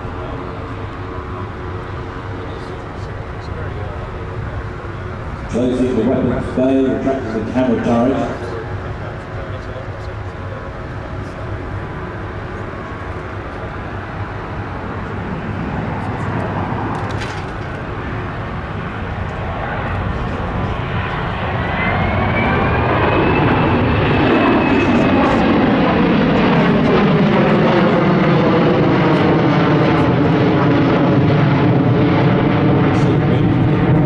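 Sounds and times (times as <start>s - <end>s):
jet aircraft flying overhead: 0.0s - 34.0s
rising jet whine: 0.0s - 34.0s.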